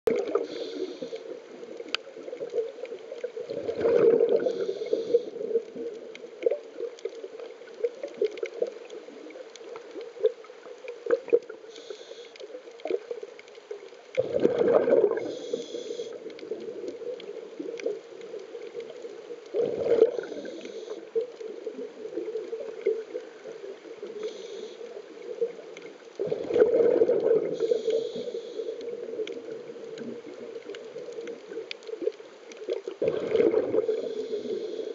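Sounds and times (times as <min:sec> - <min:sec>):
exhaled bubbles gurgling: 0:00.1 - 0:34.9.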